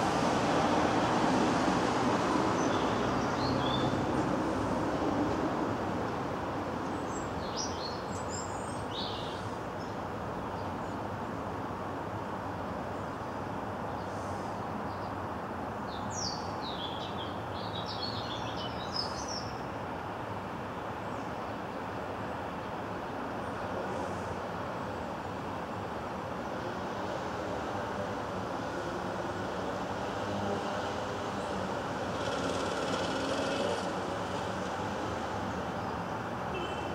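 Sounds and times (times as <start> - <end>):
street traffic hum: 0.0 - 36.9.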